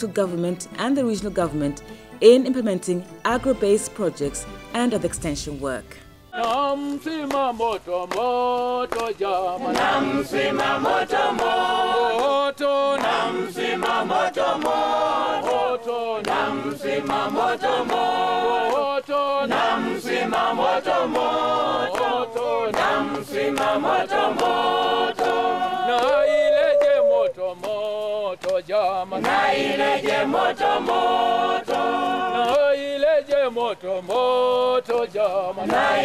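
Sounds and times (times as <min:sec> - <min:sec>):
mixed choir singing: 0:06.3 - 0:36.0.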